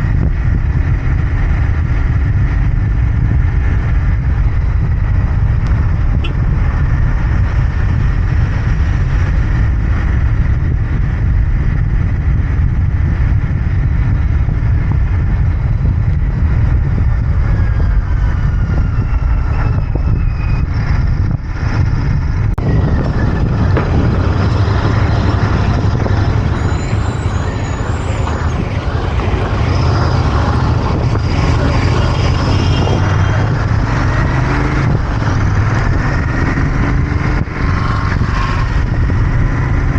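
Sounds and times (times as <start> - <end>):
motorcycle engine and exhaust running: 0.0 - 39.9
road noise: 0.0 - 39.9.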